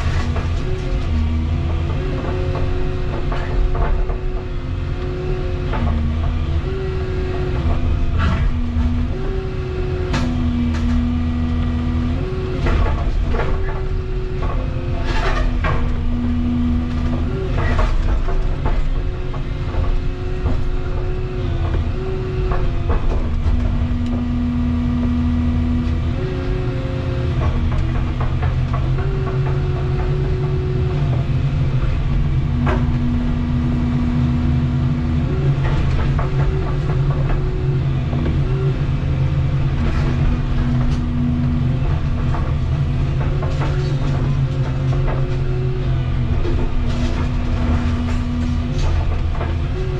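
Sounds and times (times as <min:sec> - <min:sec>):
excavator engine and hydraulics: 0:00.0 - 0:49.9
hydraulic whine: 0:00.0 - 0:49.9.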